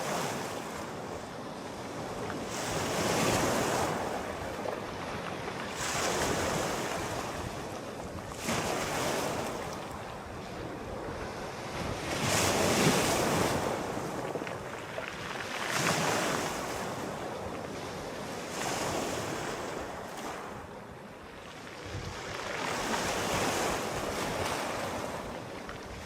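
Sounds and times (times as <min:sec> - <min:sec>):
sea waves breaking: 0:00.0 - 0:26.0.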